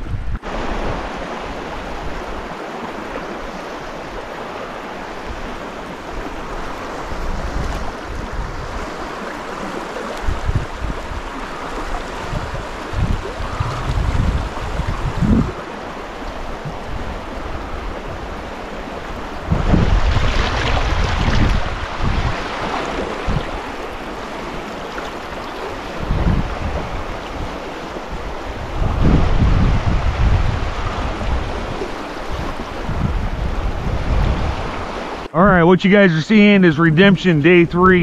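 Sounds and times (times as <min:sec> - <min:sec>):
wind rumble on microphone: 0:00.0 - 0:02.5, 0:05.1 - 0:09.0, 0:09.6 - 0:35.3
river rushing over rocks: 0:00.4 - 0:35.4.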